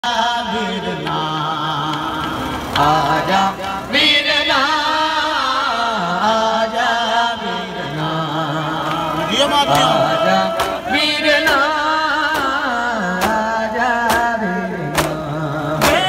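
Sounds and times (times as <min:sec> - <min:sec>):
man chanting a lament: 0:02.8 - 0:16.0.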